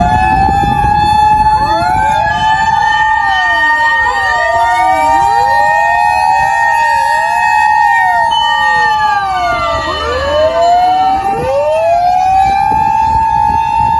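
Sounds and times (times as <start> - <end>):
siren at steady high pitch: 0.0 - 13.9
sirens winding up and down: 0.0 - 13.9
wind buffeting microphone: 0.0 - 13.9.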